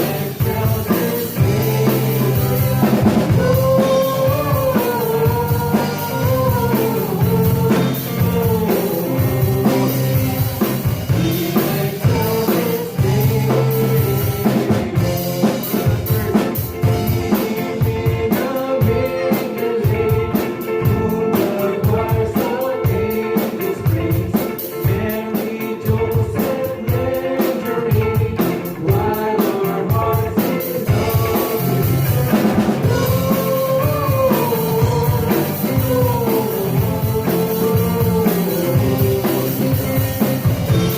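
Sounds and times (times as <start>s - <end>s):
person singing: 0.0s - 40.9s
worship band playing: 0.0s - 40.9s.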